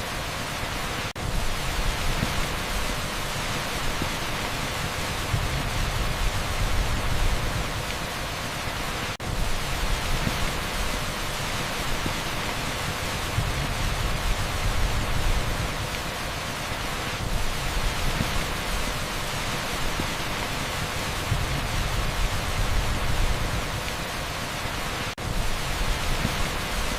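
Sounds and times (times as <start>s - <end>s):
heavy rain on a street: 0.0s - 26.9s.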